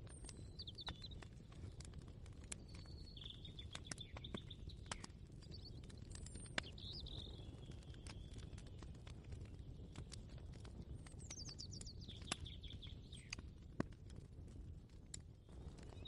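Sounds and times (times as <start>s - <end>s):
small birds chirping: 0.0s - 13.6s, 15.5s - 16.0s.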